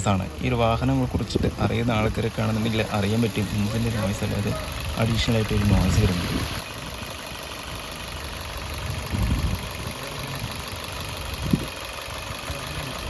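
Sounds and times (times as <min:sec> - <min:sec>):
abnormal engine noise: 0:00.0 - 0:13.0
car engine idling: 0:00.0 - 0:13.0.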